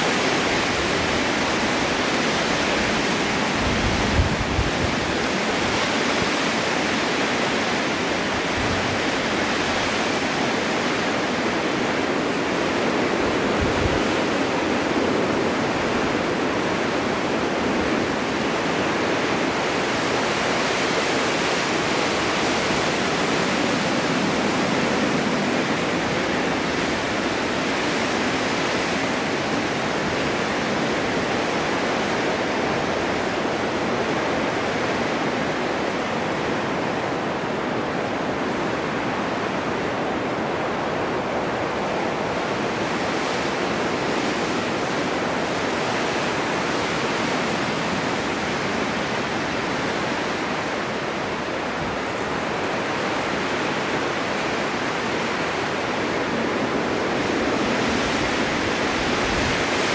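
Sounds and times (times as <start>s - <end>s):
snowstorm wind blowing: 0.0s - 59.9s.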